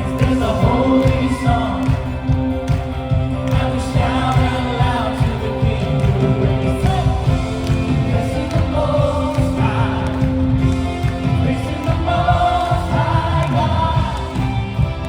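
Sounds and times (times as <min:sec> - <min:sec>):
song with singing and band: 0:00.0 - 0:15.0.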